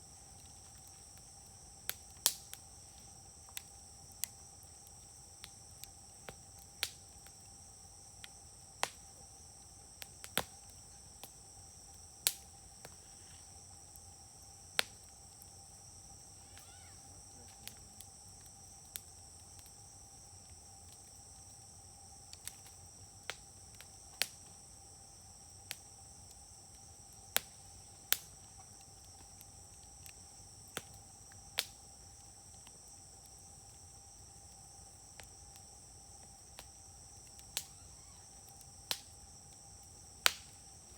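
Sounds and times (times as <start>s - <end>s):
insect trill: 0.0s - 40.9s
wood fire crackling and popping: 0.0s - 40.9s.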